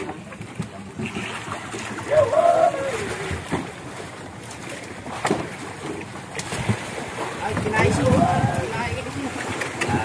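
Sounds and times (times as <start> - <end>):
sea noise: 0.0 - 10.0
wind: 0.0 - 10.0.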